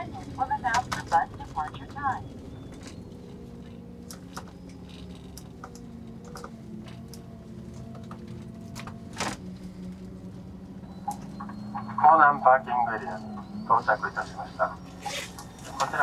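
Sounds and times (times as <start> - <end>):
bus engine humming: 0.0 - 16.0.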